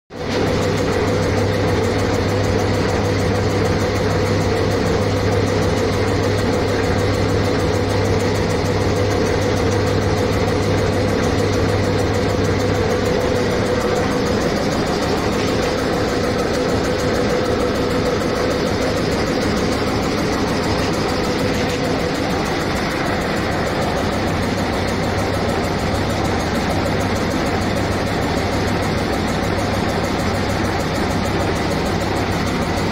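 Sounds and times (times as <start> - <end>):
air compressor running: 0.2 - 32.9
low hum: 0.6 - 28.2.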